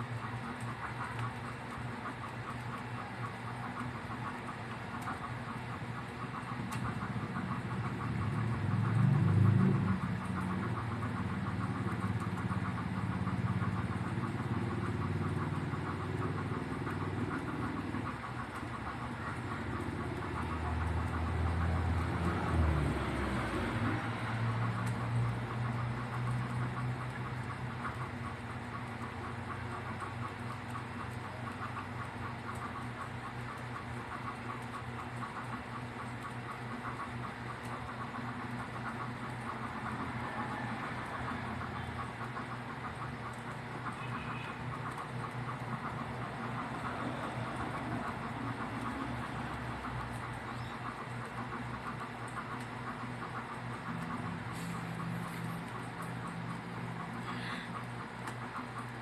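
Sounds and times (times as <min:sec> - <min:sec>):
low engine-like rumble: 0:00.0 - 0:59.0.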